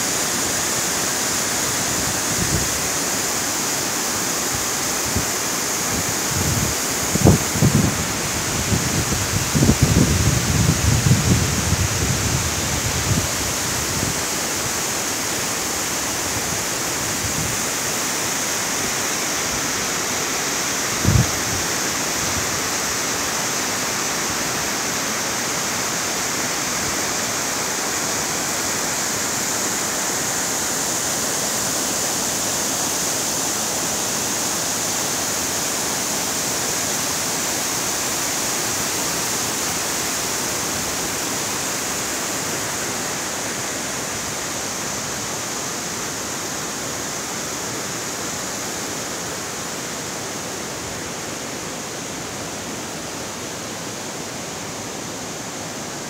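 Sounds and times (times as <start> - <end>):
river water pouring over weir: 0.0 - 56.0.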